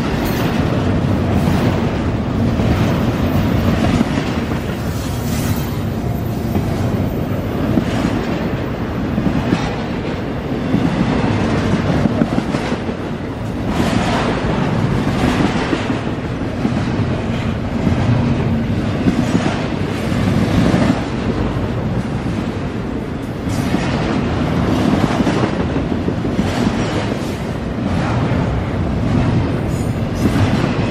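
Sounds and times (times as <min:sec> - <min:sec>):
freight train wheels clattering: 0:00.0 - 0:30.9.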